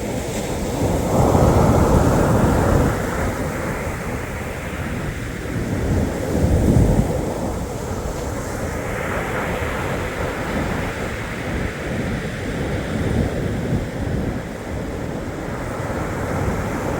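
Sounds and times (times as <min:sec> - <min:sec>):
surf washing onto shore: 0:00.0 - 0:16.9
wind rumble on microphone: 0:00.0 - 0:16.9.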